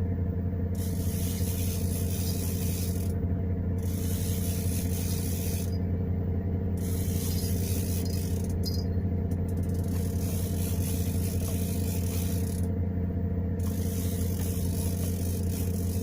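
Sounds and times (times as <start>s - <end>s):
boat engine humming: 0.0s - 16.0s
rattle: 0.7s - 3.2s, 3.8s - 5.9s, 6.8s - 12.8s, 13.5s - 16.0s.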